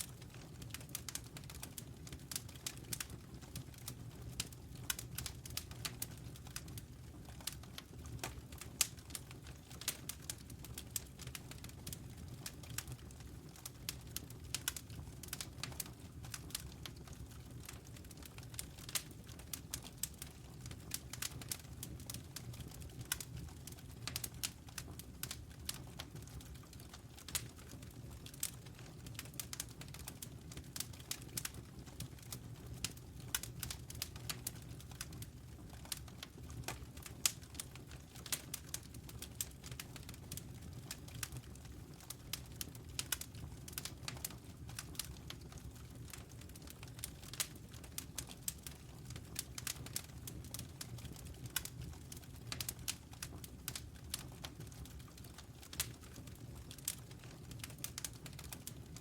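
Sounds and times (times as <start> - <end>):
low rumble of flames: 0.0 - 59.0
campfire crackling and popping: 0.1 - 59.0.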